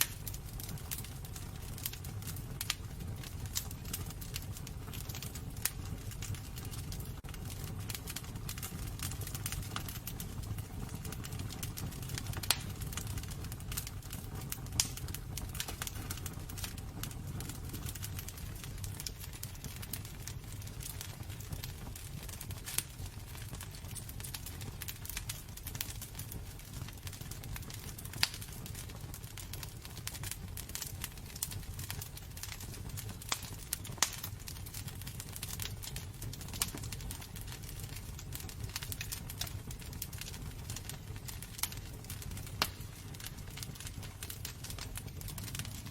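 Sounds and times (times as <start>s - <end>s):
flames rumbling: 0.0s - 45.9s
sharp fire pops: 0.0s - 45.9s
wood fire crackling: 0.0s - 45.9s.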